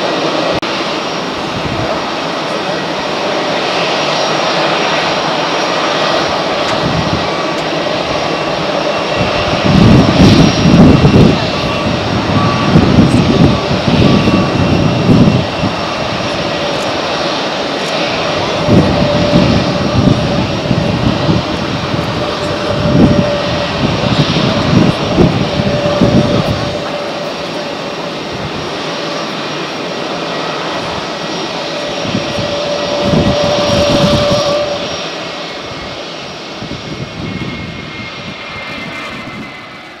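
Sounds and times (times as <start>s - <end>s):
gusty low rumble: 0.0s - 39.9s
jet engine roar with whine: 0.0s - 40.0s.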